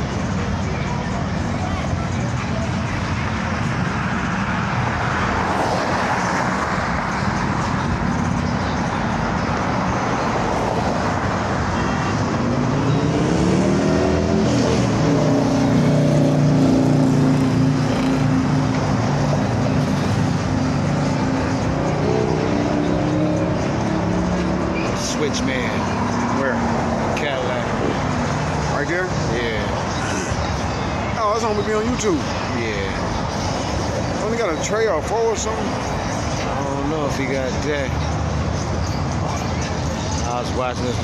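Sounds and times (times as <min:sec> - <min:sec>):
cars driving past: 0:00.0 - 0:41.0.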